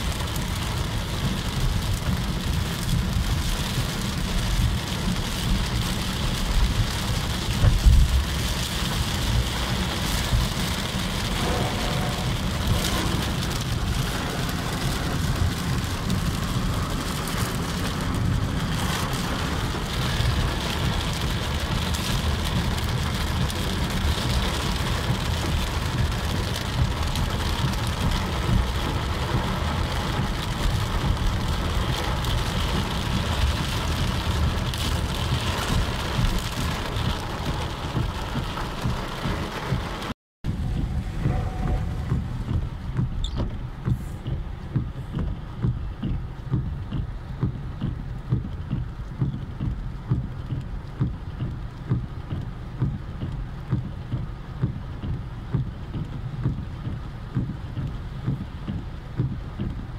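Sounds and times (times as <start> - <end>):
car rumbling on wet road: 0.0 - 59.9
heavy rain on car roof: 0.0 - 59.9.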